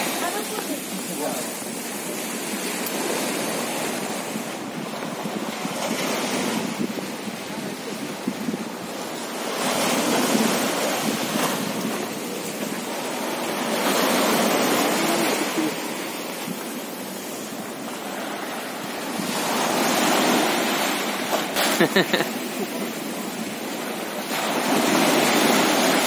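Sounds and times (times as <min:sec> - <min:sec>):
surf breaking on shore: 0:00.0 - 0:26.0.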